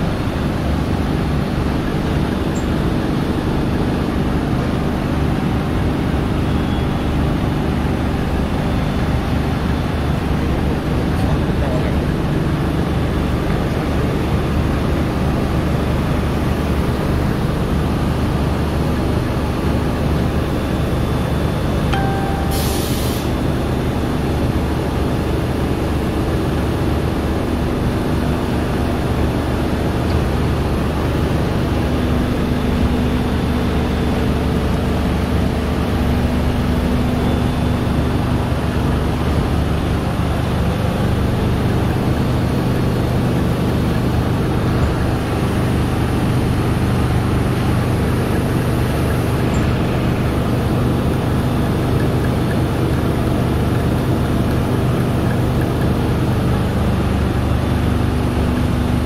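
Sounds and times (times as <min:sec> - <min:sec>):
machine hum and rumble: 0:00.0 - 0:59.0.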